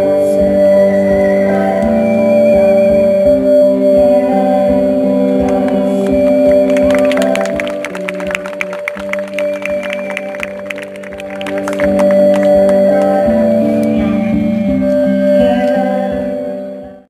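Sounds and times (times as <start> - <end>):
held music chords: 1.2 - 17.0.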